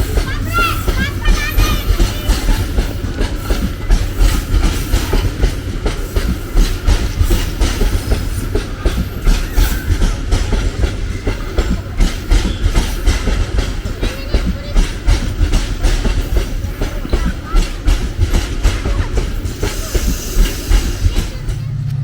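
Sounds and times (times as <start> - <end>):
train rumbling past: 0.0 - 22.0
wheels clacking over rail joints: 0.0 - 22.0.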